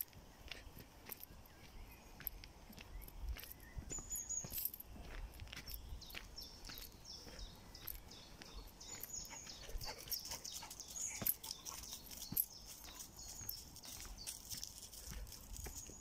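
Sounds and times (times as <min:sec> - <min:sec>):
faint high chirping: 0:00.0 - 0:16.0
footsteps crunching on leafy path: 0:00.0 - 0:16.0.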